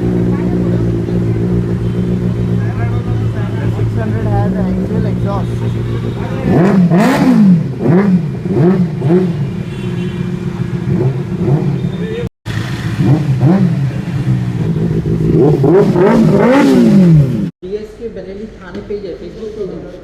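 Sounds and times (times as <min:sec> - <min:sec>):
motorcycle engine idling and revving: 0:00.0 - 0:19.8.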